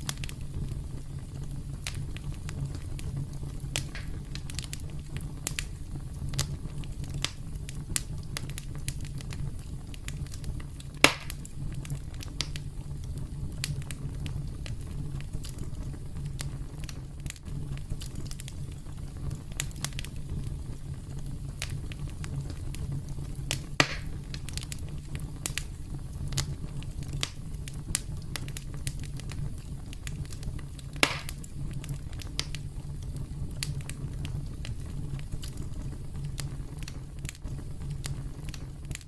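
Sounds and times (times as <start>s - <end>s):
campfire crackling and popping: 0.0s - 39.0s
low rumble of burning wood: 0.0s - 39.0s.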